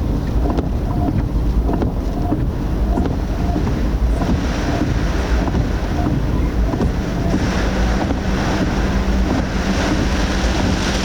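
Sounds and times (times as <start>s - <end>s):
steady low hum: 0.0s - 11.0s
wind and rain buffeting a car: 0.0s - 11.0s.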